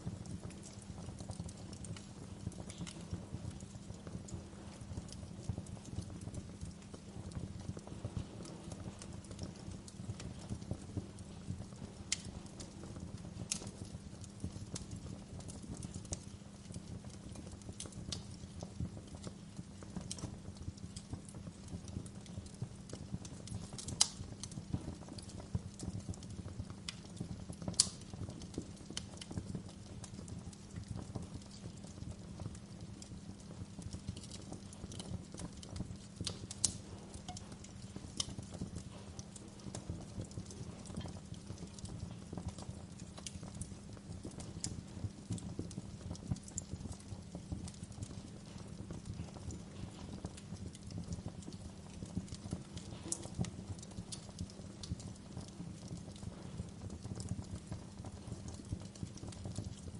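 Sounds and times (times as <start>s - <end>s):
sharp fire pops: 0.0s - 59.8s
wood fire crackling: 0.0s - 59.9s.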